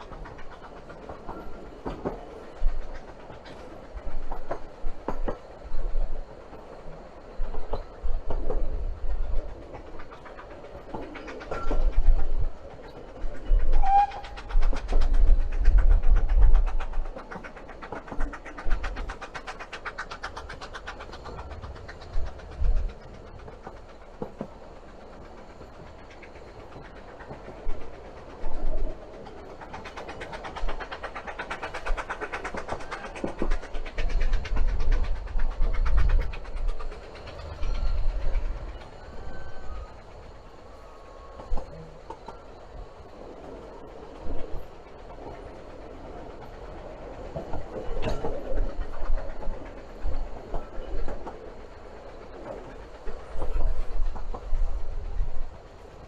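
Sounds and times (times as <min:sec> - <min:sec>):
train rumbling and clattering on rails: 0:00.0 - 0:56.0.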